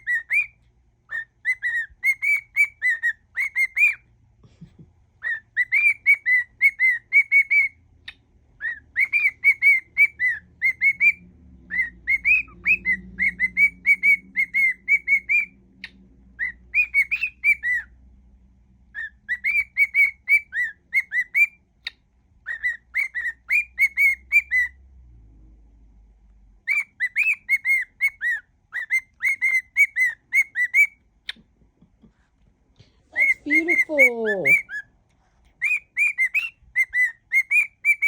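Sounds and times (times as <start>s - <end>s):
cockatiel whistling a tune: 0.0s - 4.1s, 5.2s - 18.0s, 18.9s - 24.8s, 26.6s - 31.0s, 33.1s - 34.9s, 35.5s - 38.0s.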